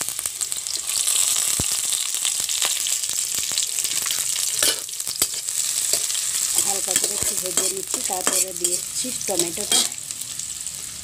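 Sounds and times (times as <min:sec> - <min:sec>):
onions sizzling in hot fat: 0:00.0 - 0:11.0.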